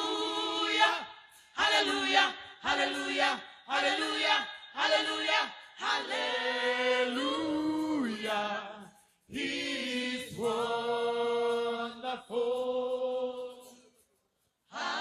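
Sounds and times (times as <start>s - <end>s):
choir singing: 0.0s - 13.9s, 14.7s - 15.0s.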